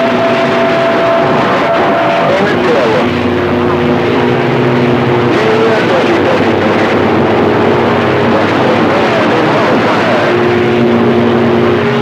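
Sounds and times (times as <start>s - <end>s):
faint garbled radio voices: 0.0s - 11.1s
radio static: 0.0s - 11.2s.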